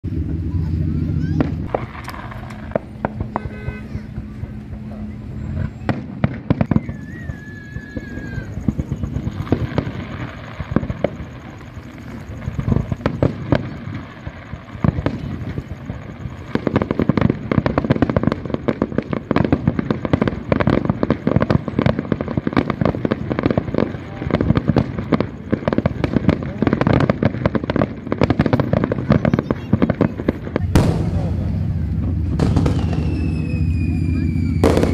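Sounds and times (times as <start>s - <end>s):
fireworks bangs and crackles: 0.0s - 34.9s
wavering firework whistle: 0.1s - 26.1s, 27.1s - 34.9s.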